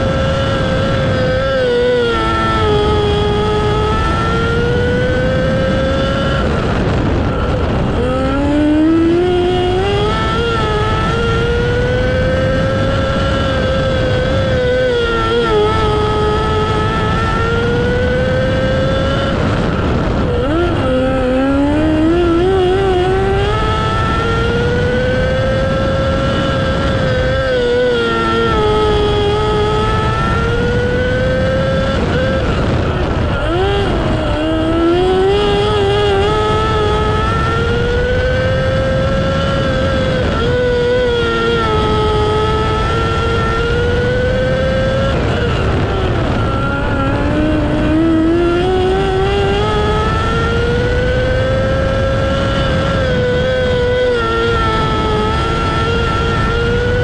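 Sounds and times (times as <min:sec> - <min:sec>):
racing engine revving: 0:00.0 - 0:57.0.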